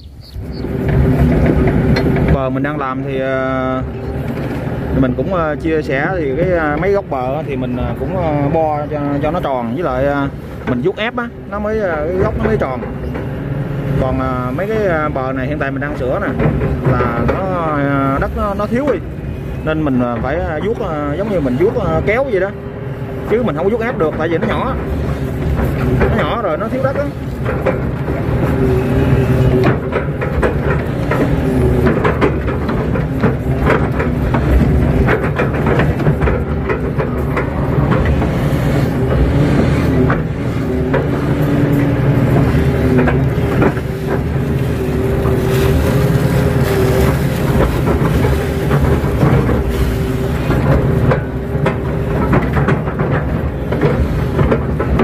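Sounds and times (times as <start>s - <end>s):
excavator diesel engine running: 0.0s - 55.0s
higher engine tone: 0.0s - 55.0s
excavator bucket knocks and rattles: 0.4s - 55.0s.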